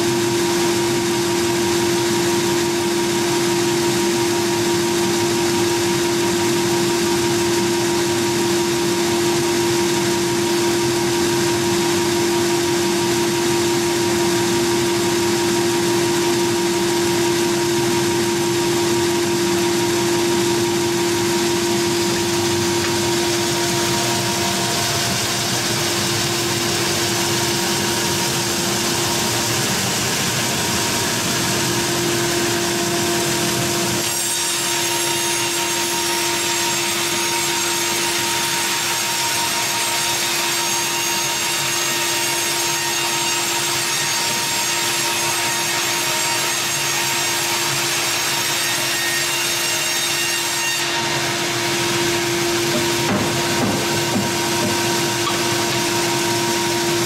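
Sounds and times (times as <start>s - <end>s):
band sawmill sawing log: 0.0s - 57.0s.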